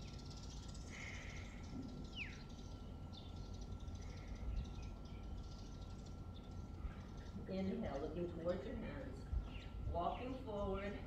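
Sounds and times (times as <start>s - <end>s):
birds calling: 0.0s - 11.0s
low steady rumble: 0.0s - 11.0s.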